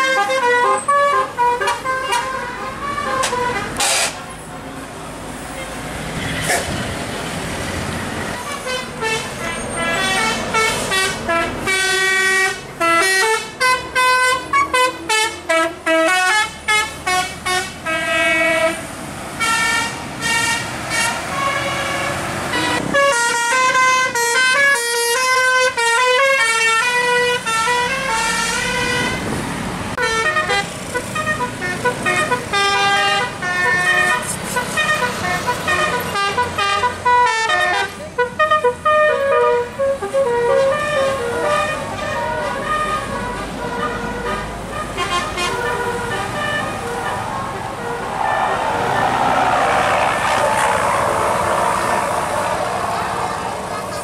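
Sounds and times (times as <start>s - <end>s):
bus horns playing melodic tunes: 0.0s - 4.2s, 7.8s - 54.0s.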